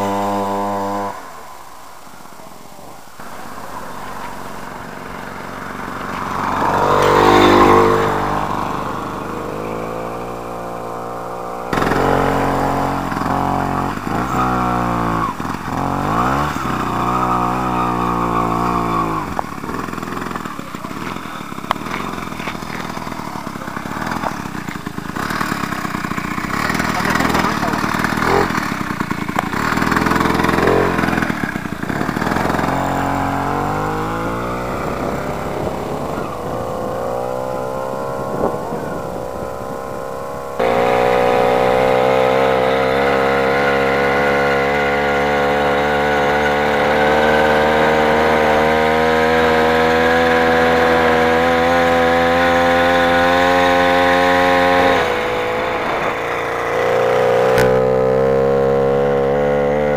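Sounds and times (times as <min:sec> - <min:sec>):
small motorbike engine revving: 0:00.0 - 0:59.9.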